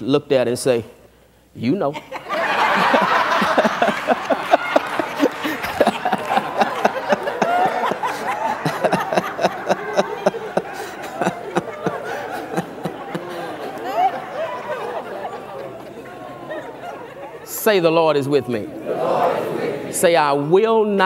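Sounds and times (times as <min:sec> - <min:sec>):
crowd laughing: 0:01.9 - 0:20.0.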